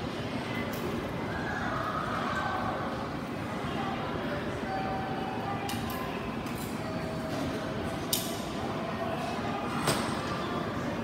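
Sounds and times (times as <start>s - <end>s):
train station background noise: 0.0s - 11.0s.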